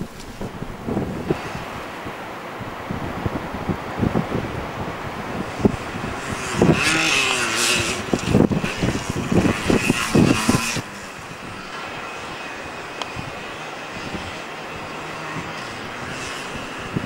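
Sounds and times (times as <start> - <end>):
dirt bike revving past: 2.9 - 17.0.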